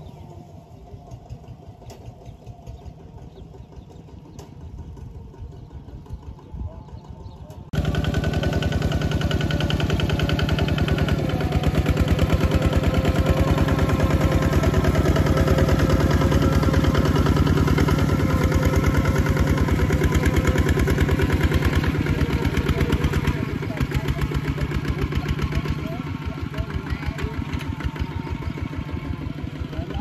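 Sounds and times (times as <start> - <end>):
diesel tractor engine chugging: 0.0 - 30.0.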